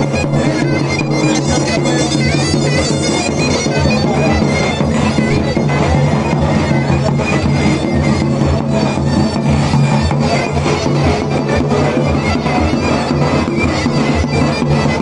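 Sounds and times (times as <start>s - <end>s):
drum beating steady rhythm: 0.0s - 15.0s
zurna playing dance tune: 0.0s - 15.0s.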